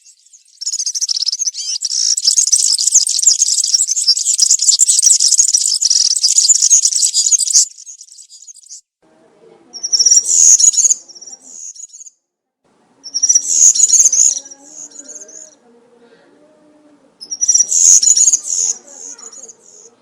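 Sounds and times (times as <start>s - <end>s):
bird singing jingling song: 0.0s - 8.9s, 9.8s - 12.2s, 13.0s - 15.6s, 17.2s - 20.0s.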